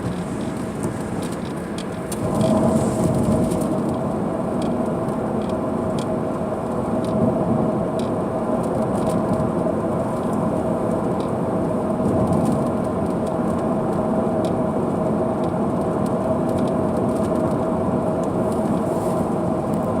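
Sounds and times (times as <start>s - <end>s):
constant hum: 0.0s - 20.0s
rain and tyres on wet road: 0.0s - 20.0s.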